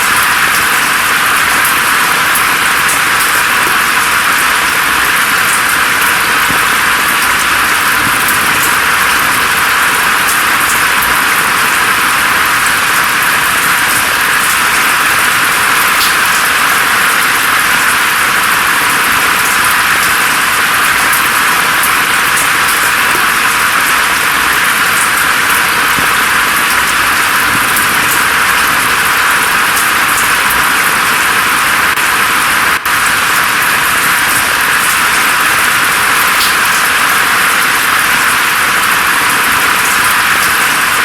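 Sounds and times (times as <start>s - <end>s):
rain drop ticks: 0.0s - 41.0s
steady rain falling: 0.0s - 41.0s.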